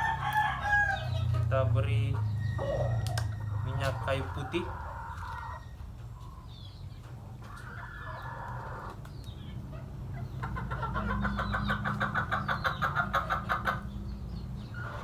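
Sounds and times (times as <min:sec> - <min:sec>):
chicken calling: 0:00.0 - 0:15.0
chicken clucking: 0:00.0 - 0:15.0.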